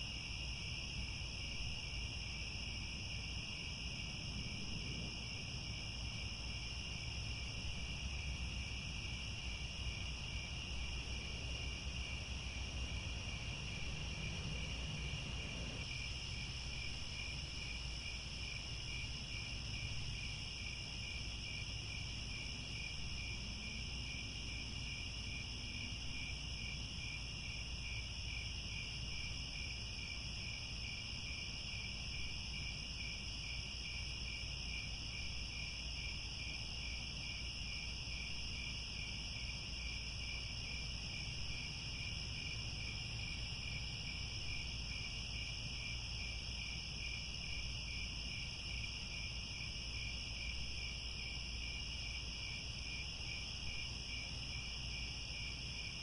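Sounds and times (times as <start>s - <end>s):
crickets chirring: 0.0s - 56.0s.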